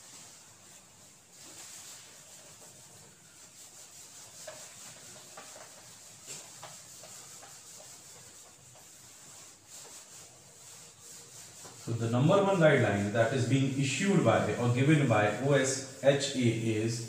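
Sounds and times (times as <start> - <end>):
rubbing on whiteboard: 0.0 - 17.0.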